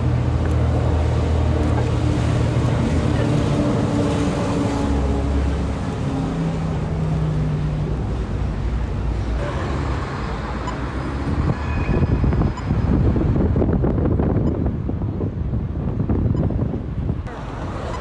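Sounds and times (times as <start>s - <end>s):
vehicle engines and road noise: 0.0s - 18.0s
wind buffeting microphone: 0.0s - 18.0s.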